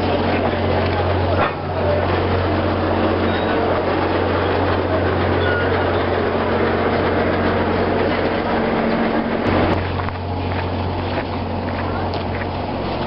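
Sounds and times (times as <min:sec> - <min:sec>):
train engine idling: 0:00.0 - 0:13.0.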